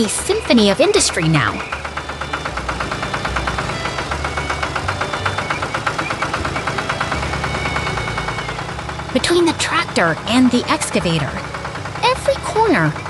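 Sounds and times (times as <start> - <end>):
heavy vehicle engine chugging: 0.0 - 13.0.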